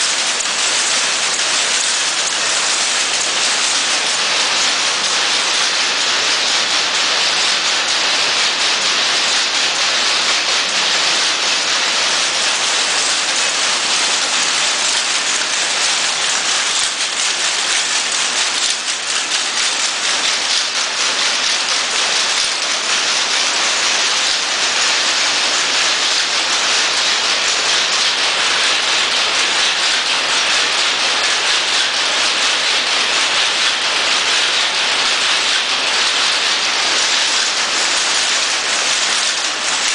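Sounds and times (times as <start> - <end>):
loom mechanical clatter: 0.0 - 39.9.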